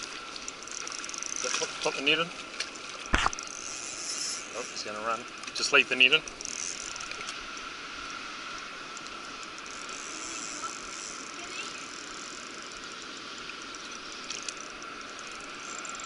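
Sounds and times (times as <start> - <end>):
fishing reel whirring: 0.0 - 7.4, 8.0 - 16.0.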